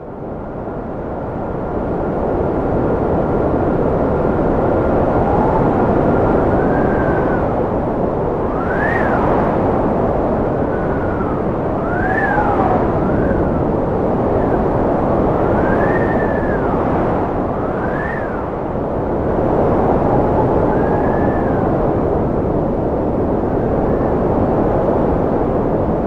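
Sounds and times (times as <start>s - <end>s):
strong wind whistling: 0.0s - 26.0s.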